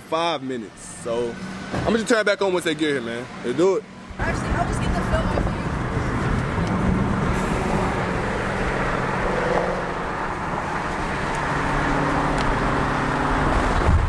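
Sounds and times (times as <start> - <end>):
engine hum: 0.0 - 14.0
road noise inside car: 0.0 - 14.0.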